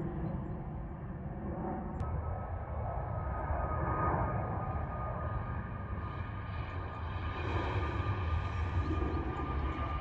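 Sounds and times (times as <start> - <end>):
jet engine high whine: 0.0 - 10.0
jet engine rumble overhead: 0.0 - 10.0.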